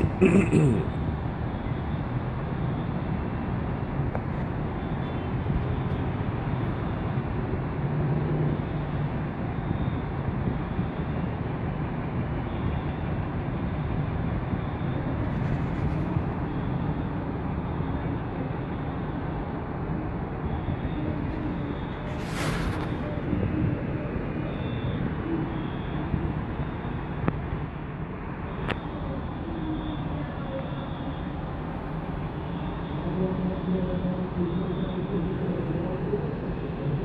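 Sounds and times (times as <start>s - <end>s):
vehicle rumbling in motion: 0.0s - 37.0s.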